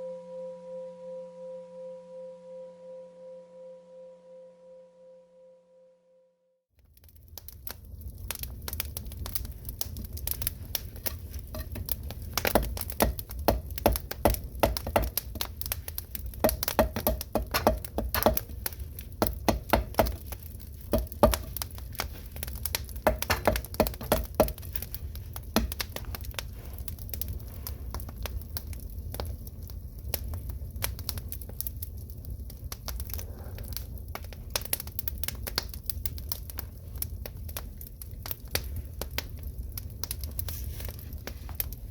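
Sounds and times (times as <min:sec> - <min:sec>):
firewood crackling and popping: 0:06.8 - 0:41.9
low rumble of fire: 0:06.8 - 0:41.9.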